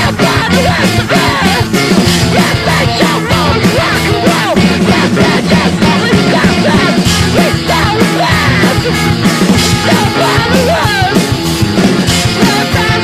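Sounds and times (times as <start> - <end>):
loud hardcore punk music: 0.0 - 13.0.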